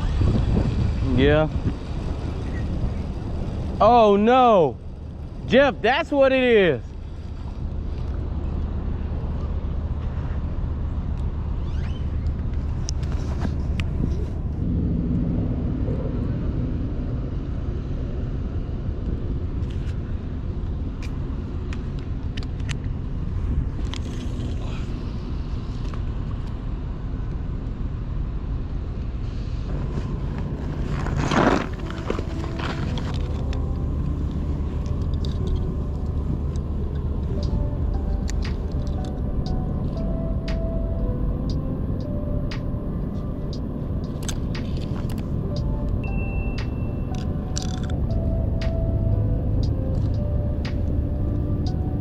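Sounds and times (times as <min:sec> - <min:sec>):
low engine rumble: 0:00.0 - 0:52.0.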